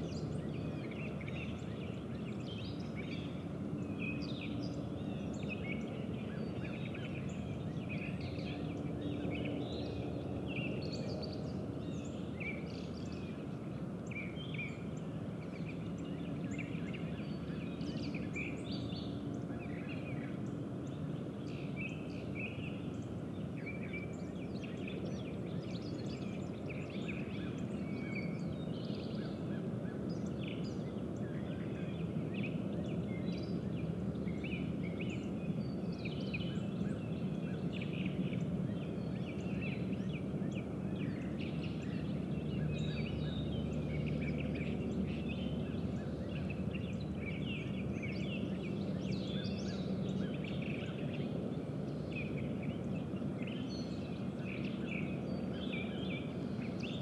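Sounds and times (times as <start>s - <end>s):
birds chirping: 0.0s - 57.0s
low outdoor rumble: 0.0s - 57.0s.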